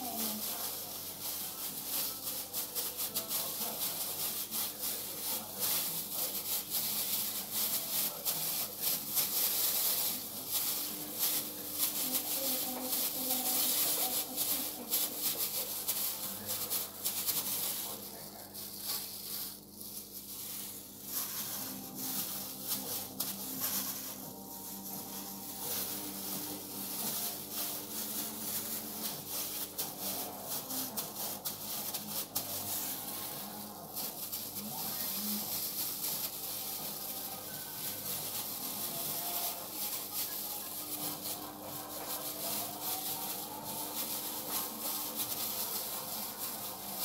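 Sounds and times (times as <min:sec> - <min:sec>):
plastic gloves crinkling: 0:00.0 - 0:47.0.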